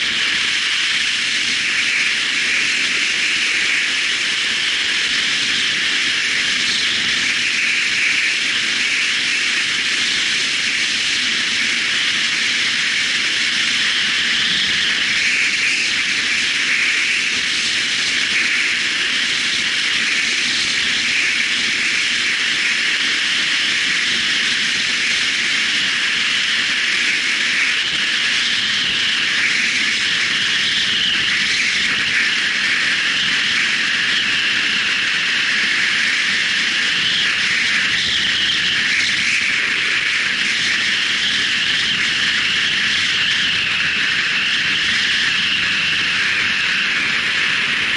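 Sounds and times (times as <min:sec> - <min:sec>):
wind and road noise: 0:00.0 - 0:47.9.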